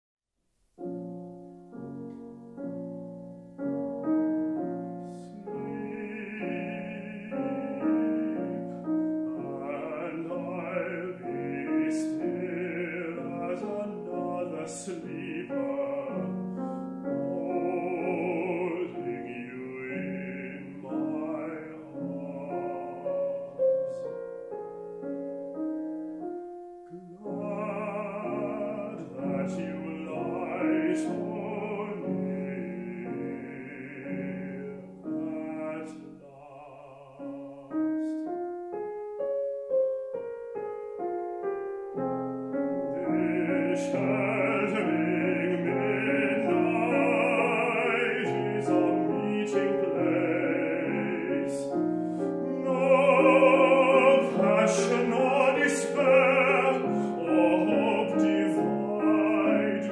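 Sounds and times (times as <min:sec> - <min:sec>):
grand piano: 0:00.4 - 0:59.9
man singing with vibrato: 0:04.0 - 0:24.4, 0:26.9 - 0:38.4, 0:42.8 - 0:59.9.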